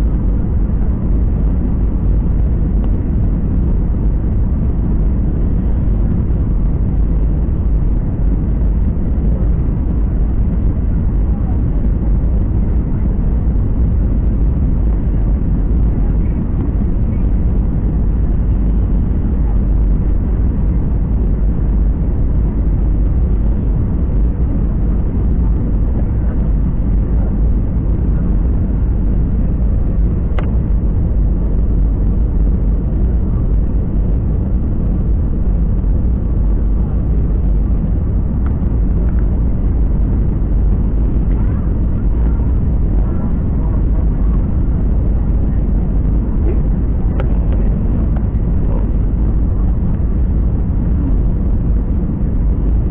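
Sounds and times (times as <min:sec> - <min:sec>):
airliner cabin rumble: 0:00.0 - 0:52.9.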